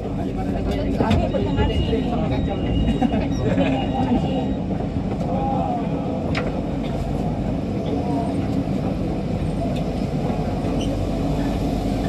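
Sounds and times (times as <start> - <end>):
metro train low rumble: 0.0 - 12.0.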